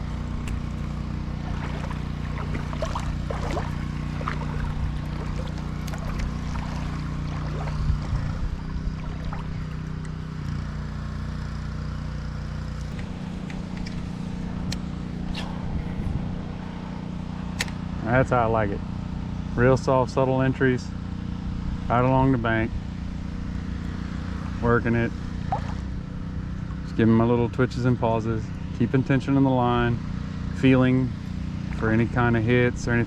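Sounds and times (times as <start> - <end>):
low engine hum: 0.0 - 33.0.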